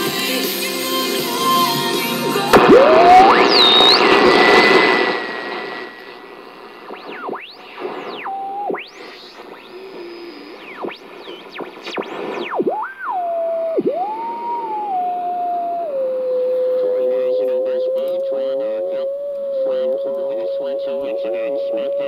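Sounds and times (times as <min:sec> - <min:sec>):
radio static hiss: 0:02.4 - 0:22.0
radio whistling tones: 0:02.5 - 0:22.0.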